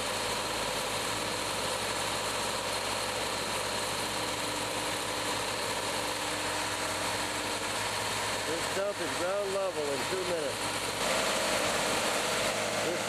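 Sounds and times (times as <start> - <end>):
stump grinder running: 0.0 - 13.0.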